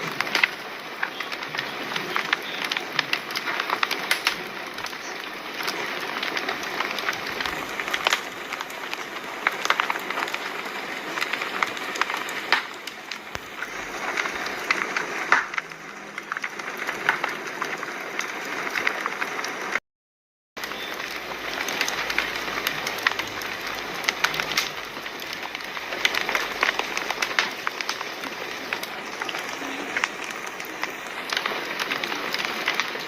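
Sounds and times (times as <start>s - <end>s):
fire crackling and popping: 0.0s - 19.8s, 20.6s - 33.0s.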